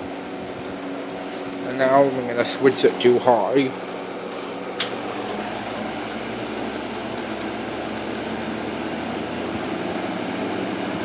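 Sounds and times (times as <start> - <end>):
window fan running: 0.0 - 11.0.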